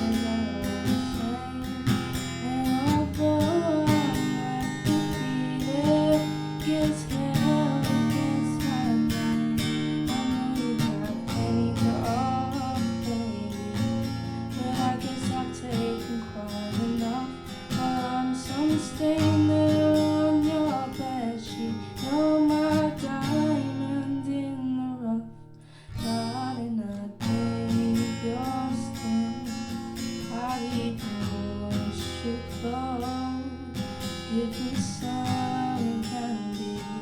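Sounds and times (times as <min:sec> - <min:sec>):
acoustic guitar strummed: 0:00.0 - 0:37.0
person singing: 0:00.0 - 0:37.0.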